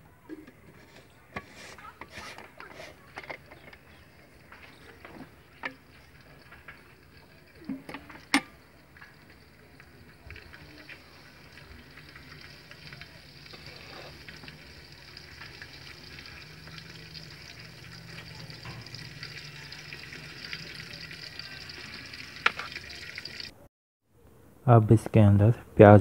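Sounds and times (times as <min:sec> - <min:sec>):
ghee sizzling and crackling: 0:00.6 - 0:23.6.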